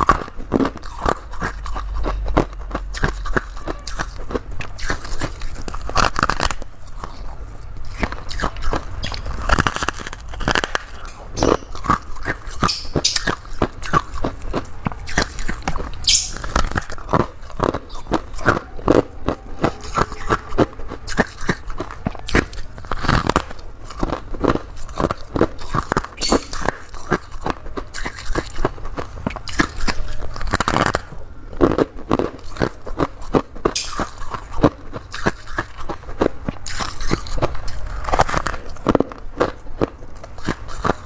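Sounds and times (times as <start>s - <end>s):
person chewing crunchy frost: 0.0s - 41.0s.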